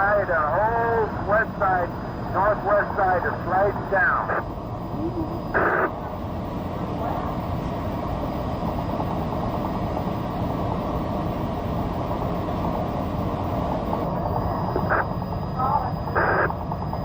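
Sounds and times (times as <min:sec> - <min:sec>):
aircraft engine drone in cabin: 0:00.0 - 0:17.0.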